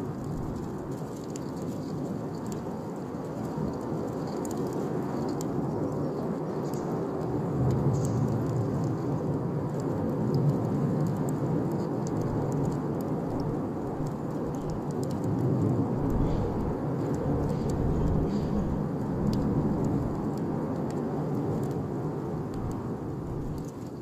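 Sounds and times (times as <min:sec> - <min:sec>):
bonfire flames rushing: 0:00.0 - 0:24.0
fire crackles and pops: 0:00.0 - 0:24.0.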